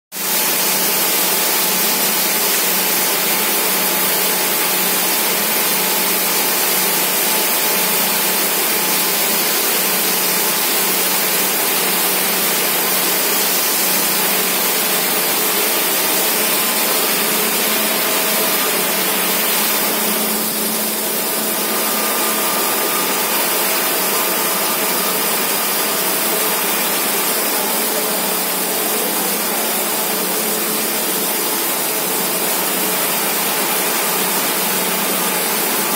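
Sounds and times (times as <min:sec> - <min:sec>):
circular knitting machine running: 0:00.2 - 0:35.9.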